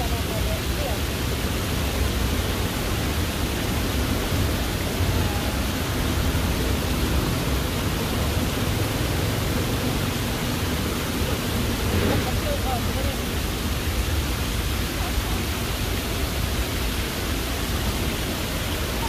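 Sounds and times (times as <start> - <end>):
fountain water cascading: 0.0 - 19.0.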